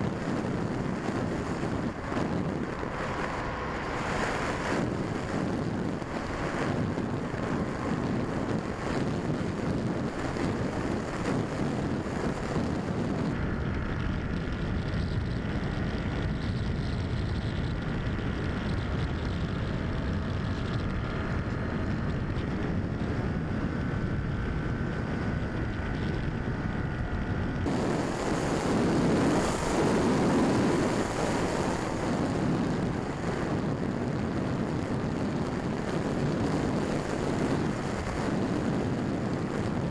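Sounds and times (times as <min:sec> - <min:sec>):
electric motor whine: 0:00.0 - 0:39.9
wind rushing over camera: 0:00.0 - 0:39.9.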